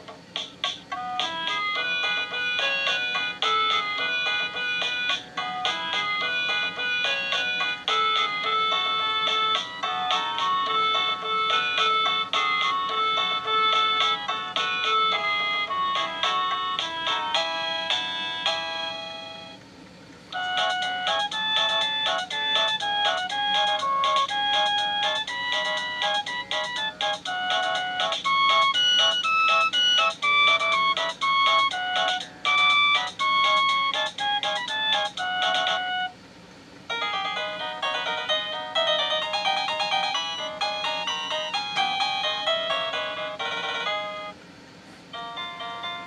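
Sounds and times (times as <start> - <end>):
electronic doorbell chime tunes: 0.9 - 19.6, 20.4 - 36.1, 36.9 - 44.4, 45.2 - 46.0.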